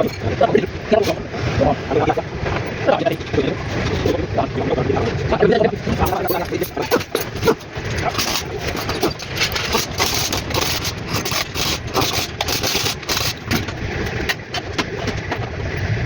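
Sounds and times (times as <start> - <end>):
rapid engine ticking: 0.0 - 15.6
car engine idling: 0.0 - 15.8.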